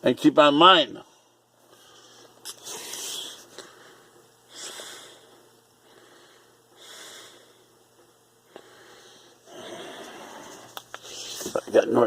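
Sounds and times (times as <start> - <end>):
man breathing close to microphone: 1.1 - 7.8, 8.4 - 11.6.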